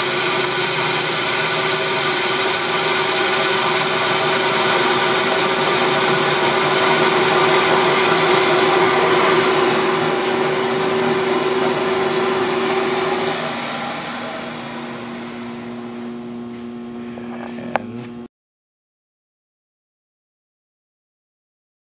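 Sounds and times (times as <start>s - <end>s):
grinding machine whirring: 0.0s - 18.2s.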